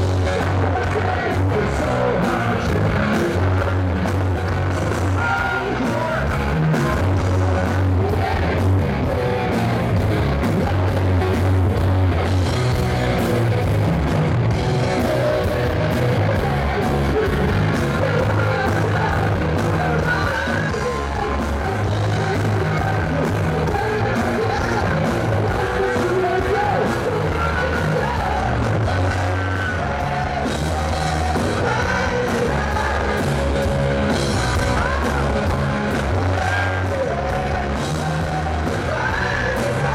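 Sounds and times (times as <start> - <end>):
person singing: 0.0 - 9.8, 14.6 - 39.9
bass guitar: 0.0 - 39.9
drums: 0.0 - 39.9
electric guitars: 0.0 - 39.9.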